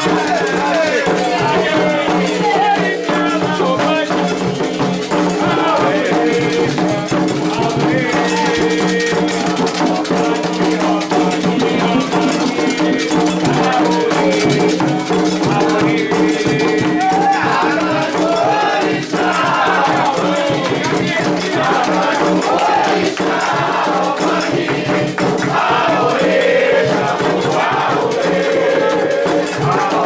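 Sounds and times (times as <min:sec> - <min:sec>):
group singing: 0:00.0 - 0:30.0
rattles shaken rhythmically: 0:00.0 - 0:30.0.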